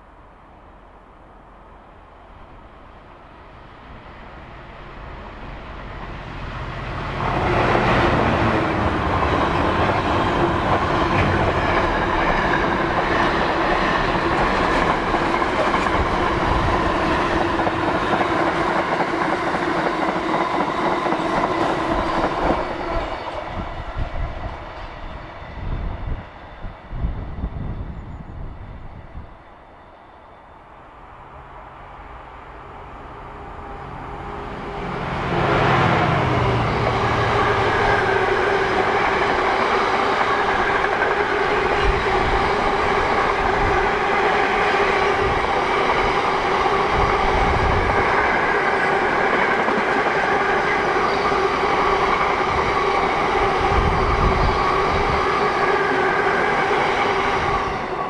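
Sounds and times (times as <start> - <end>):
diesel locomotive engine: 0.0 - 58.0
freight train rumble: 0.0 - 58.0.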